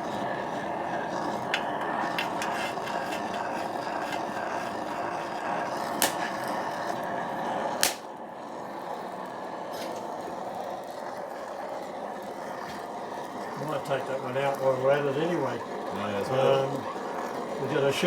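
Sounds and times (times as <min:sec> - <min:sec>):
gas torch hissing: 0:00.0 - 0:18.0.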